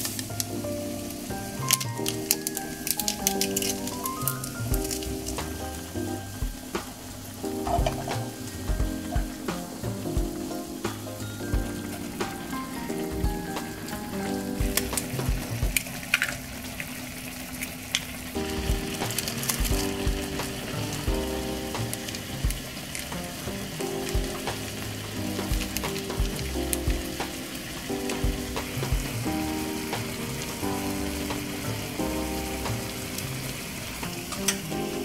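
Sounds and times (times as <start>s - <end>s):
soft background music: 0.0s - 16.3s, 18.3s - 35.0s
broth simmering and sizzling in a pan: 0.0s - 35.0s.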